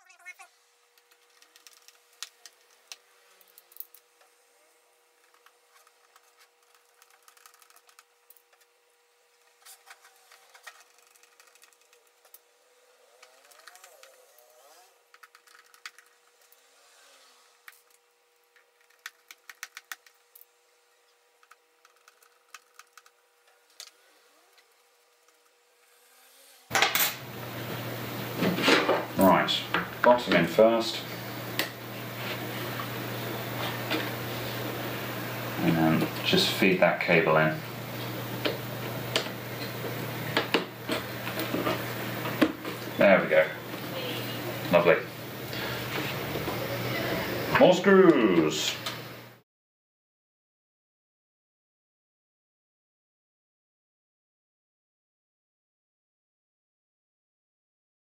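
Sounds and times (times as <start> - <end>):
faint steady hum: 0.0 - 49.4.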